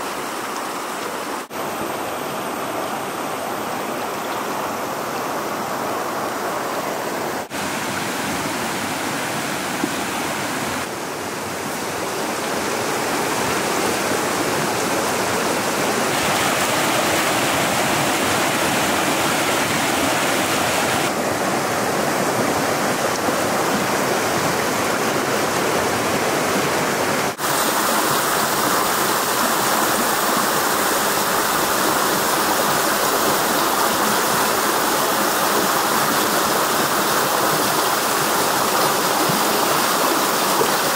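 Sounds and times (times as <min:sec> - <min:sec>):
river babbling over stones: 0:00.0 - 0:40.9.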